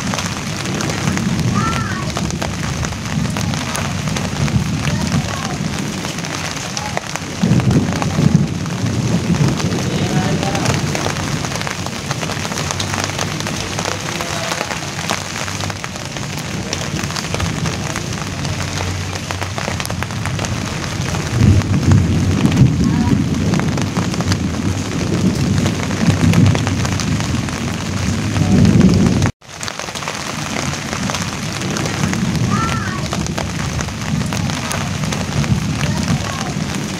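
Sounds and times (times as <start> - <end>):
low rumbles: 0.0 - 36.9
rain pattering on leaf: 0.0 - 36.9.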